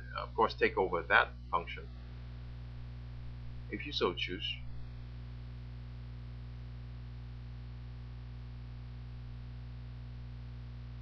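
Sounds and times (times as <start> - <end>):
constant hiss: 0.0 - 11.0
electrical mains hum: 0.0 - 11.0.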